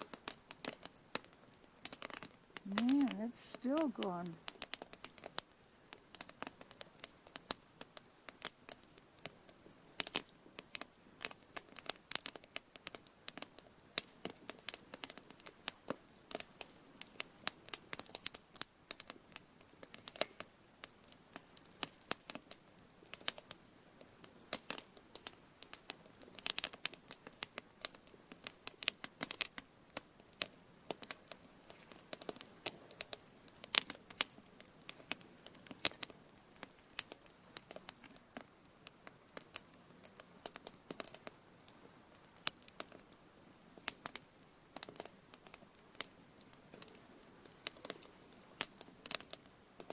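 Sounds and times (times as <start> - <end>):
fire crackling: 0.0 - 49.9.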